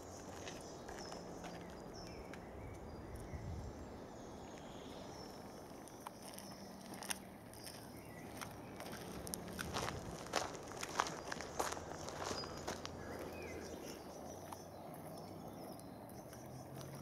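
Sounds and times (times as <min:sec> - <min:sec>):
footsteps on dirt path: 0:00.0 - 0:02.9, 0:04.4 - 0:15.2
high bird calls: 0:00.0 - 0:17.0.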